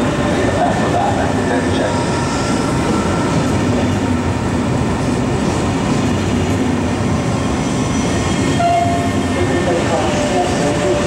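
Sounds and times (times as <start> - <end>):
low train hum: 0.0 - 11.0
train wheels rumbling on rail: 0.0 - 11.0.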